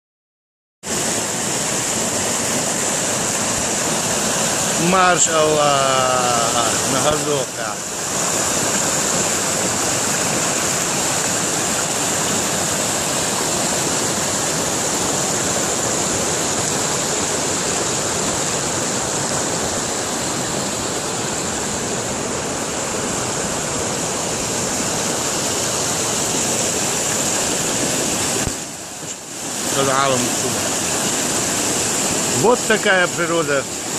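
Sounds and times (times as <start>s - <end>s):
river rushing over rocks: 0.9s - 33.9s.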